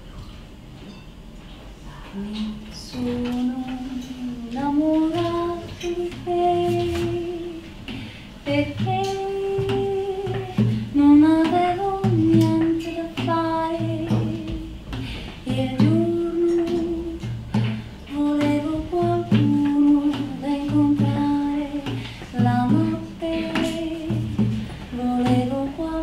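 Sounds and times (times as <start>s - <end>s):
acoustic guitar: 0.0s - 26.0s
woman singing slow melody: 1.9s - 26.0s.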